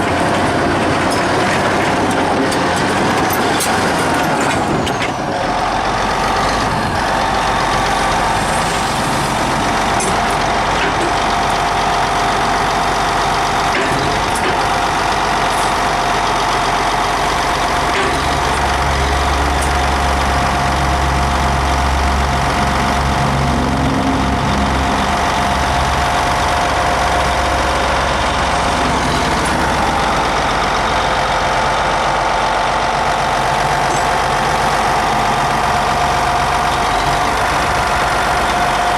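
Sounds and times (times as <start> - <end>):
deep rumble: 0.0 - 13.6, 16.1 - 38.9
bulldozer diesel engine running: 0.0 - 38.9
high whine: 0.0 - 38.9.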